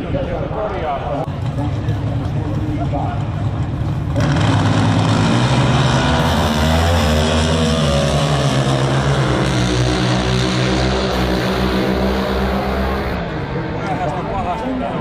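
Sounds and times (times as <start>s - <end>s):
racing car engines droning: 1.3s - 15.0s.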